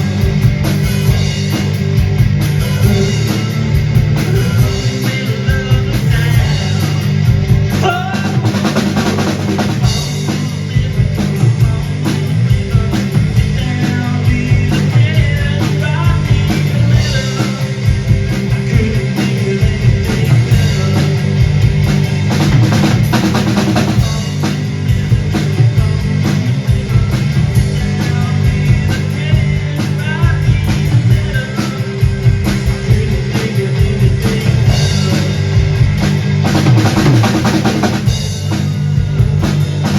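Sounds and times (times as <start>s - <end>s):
drum kit played hard: 0.0s - 39.9s.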